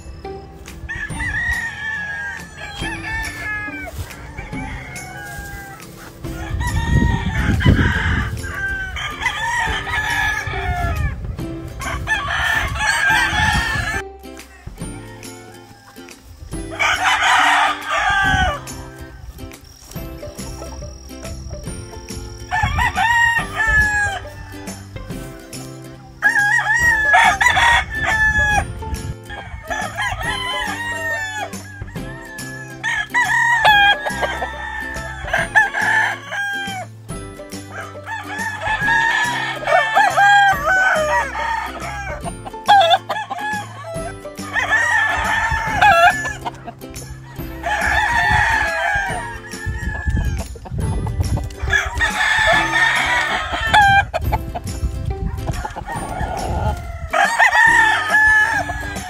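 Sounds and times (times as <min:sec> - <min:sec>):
chickens clucking: 0:00.0 - 0:59.0
roosters crowing: 0:00.0 - 0:59.0.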